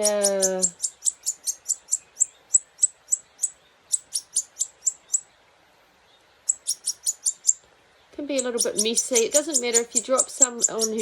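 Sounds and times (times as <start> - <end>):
baby bird begging chirps: 0.0 - 5.3, 6.4 - 7.6, 8.2 - 11.0.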